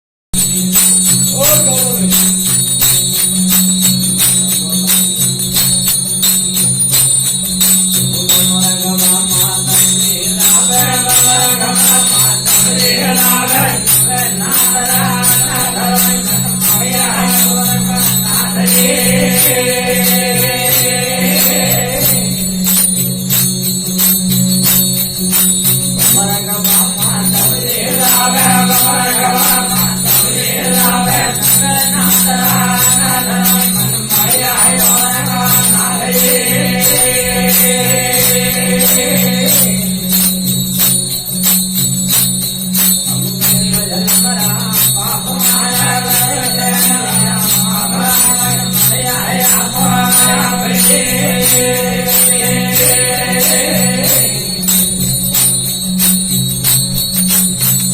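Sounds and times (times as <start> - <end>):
jingling percussion beat: 0.3 - 57.9
steady drone: 0.4 - 57.9.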